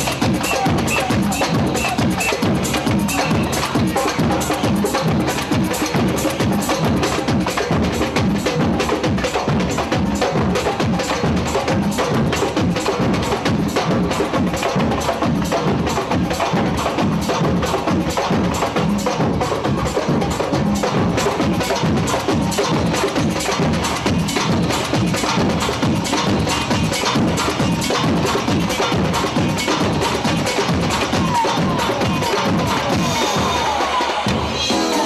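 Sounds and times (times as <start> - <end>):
samba percussion music: 0.0 - 35.0.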